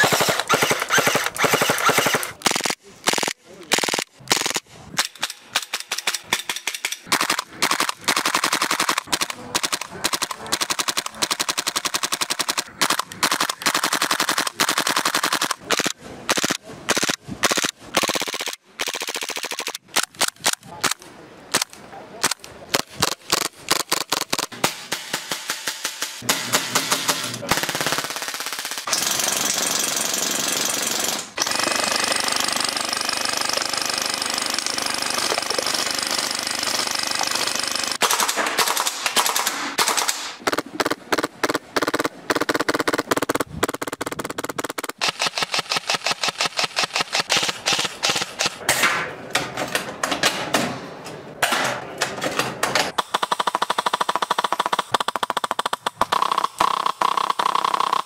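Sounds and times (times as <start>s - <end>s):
full-auto bursts of shots: 0.0s - 48.6s, 52.9s - 58.0s.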